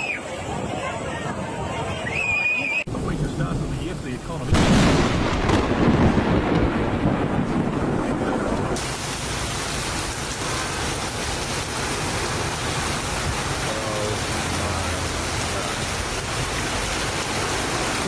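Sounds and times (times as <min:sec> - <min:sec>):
heavy rain pouring: 0:02.8 - 0:18.0.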